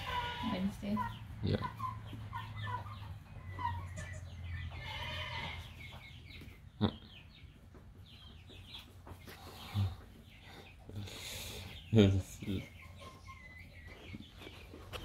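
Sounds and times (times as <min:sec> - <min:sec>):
fowl clucking and chirping: 0:00.0 - 0:15.0.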